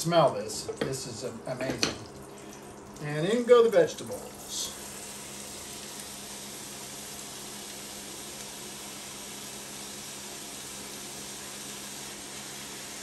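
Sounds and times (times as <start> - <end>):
vegetables sizzling in butter: 0.7 - 13.0.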